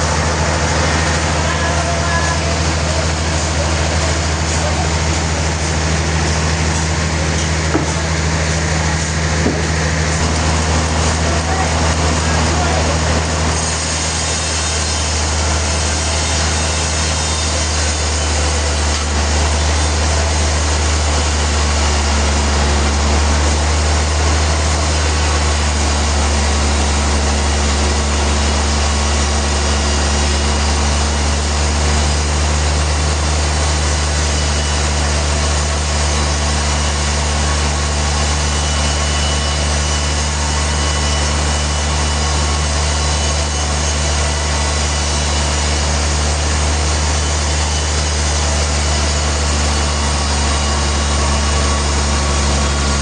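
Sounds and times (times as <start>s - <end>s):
sawmill machinery drone: 0.0s - 53.0s.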